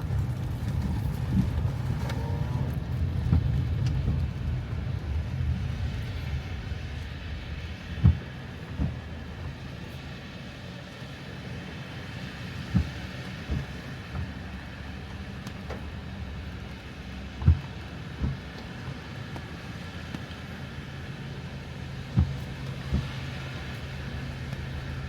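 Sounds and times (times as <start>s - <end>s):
wheels thumping over bumps: 0.0s - 10.2s, 11.3s - 25.0s
car engine and road noise: 0.0s - 25.0s.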